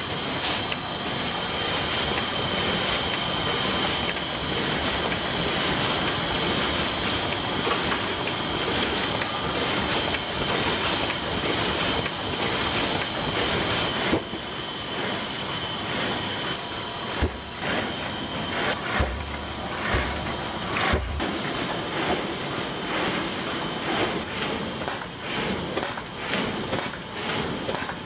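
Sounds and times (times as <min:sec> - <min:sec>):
machinery clatter with high whine: 0:00.0 - 0:28.0.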